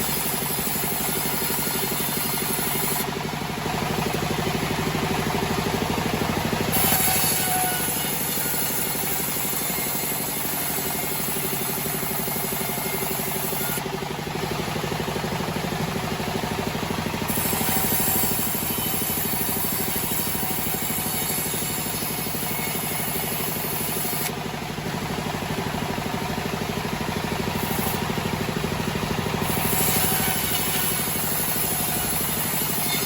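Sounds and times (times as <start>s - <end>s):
band sawmill motor droning: 0.0s - 33.0s.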